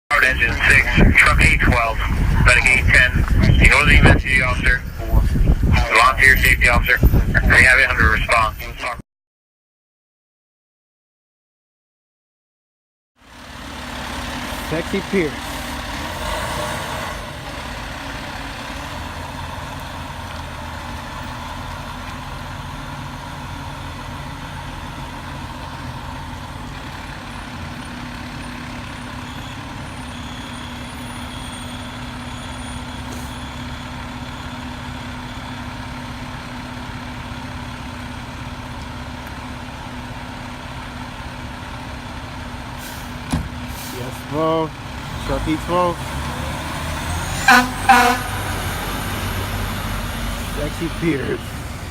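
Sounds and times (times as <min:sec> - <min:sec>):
diesel engine running: 0:00.1 - 0:08.9, 0:13.2 - 0:51.9.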